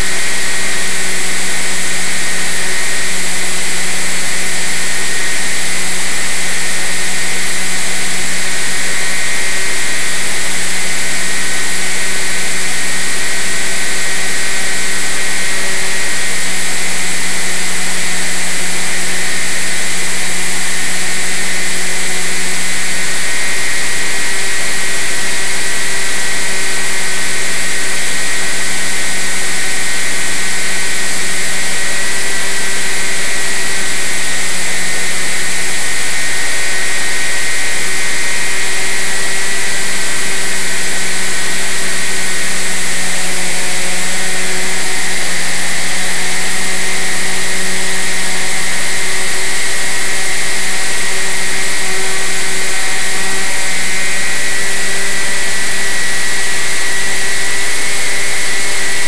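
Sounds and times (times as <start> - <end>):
motor hum and propeller whine: 0.0 - 59.0.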